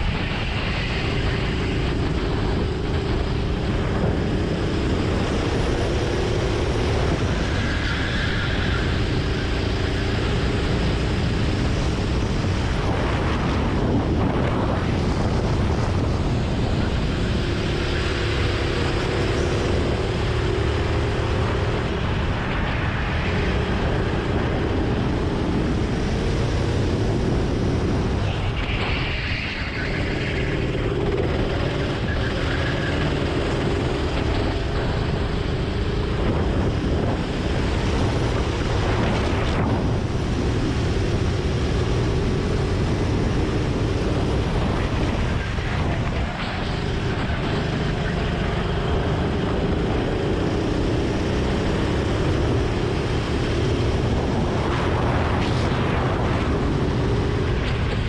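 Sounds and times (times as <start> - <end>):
go-kart engine running hard: 0.0 - 58.0.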